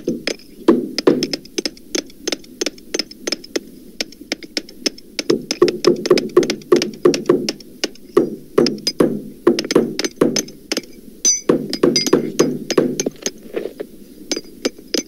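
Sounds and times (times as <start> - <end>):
hammer blows: 0.0 - 13.3.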